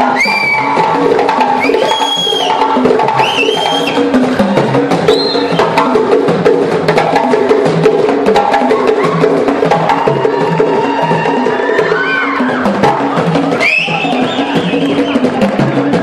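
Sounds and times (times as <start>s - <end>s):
hand drums playing rhythm: 0.0s - 16.0s.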